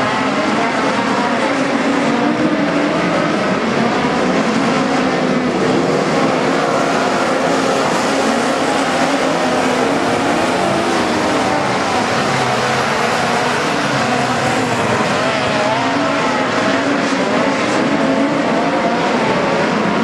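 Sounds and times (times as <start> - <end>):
race car engines running hard: 0.0 - 20.0.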